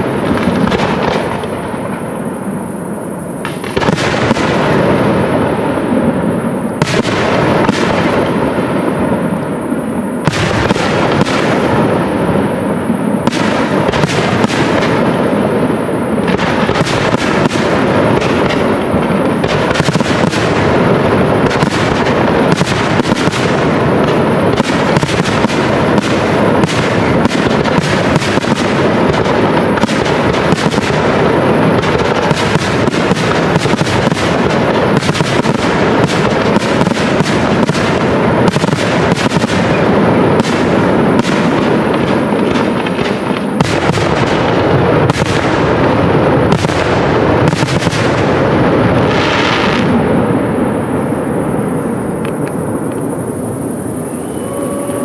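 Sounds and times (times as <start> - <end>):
fireworks crackle: 0.0 - 55.0.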